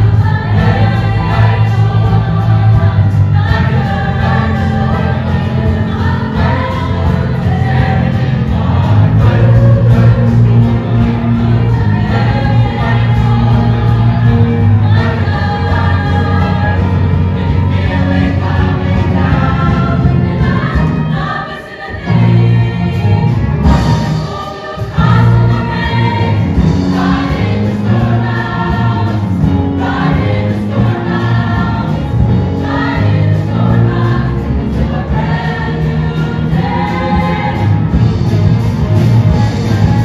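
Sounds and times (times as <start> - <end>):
choir singing: 0.0 - 40.0
musical accompaniment: 0.0 - 40.0.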